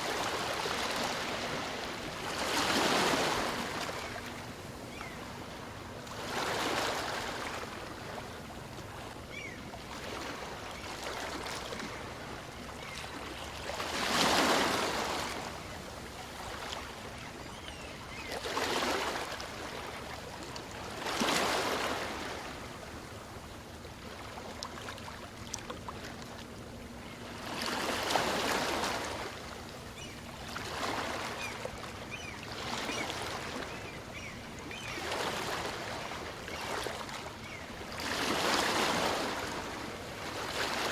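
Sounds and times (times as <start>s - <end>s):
gentle waves breaking on beach: 0.0s - 23.3s, 27.3s - 40.9s.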